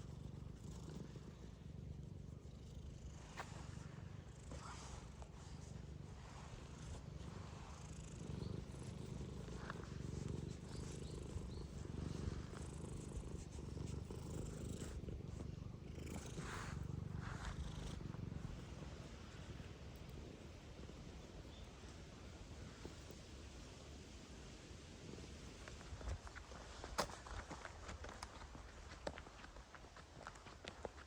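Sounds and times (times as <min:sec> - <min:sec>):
cat purring: 0:00.0 - 0:29.5.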